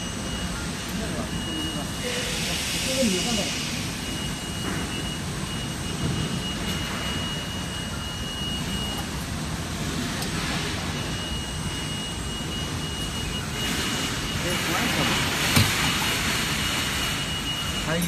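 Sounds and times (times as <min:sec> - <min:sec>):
machinery rumble and hiss: 0:00.0 - 0:18.0
thin high machine whine: 0:00.0 - 0:18.0.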